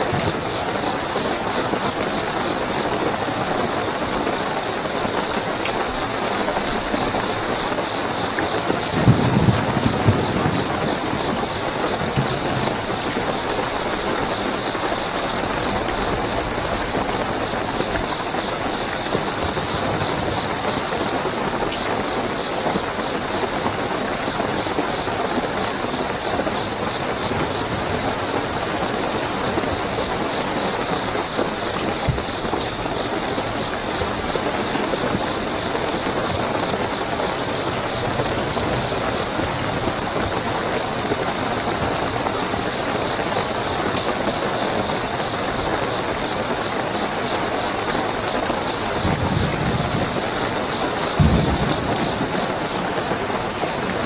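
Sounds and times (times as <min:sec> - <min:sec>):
crickets chirping: 0:00.0 - 0:54.0
heavy rain: 0:00.0 - 0:54.0.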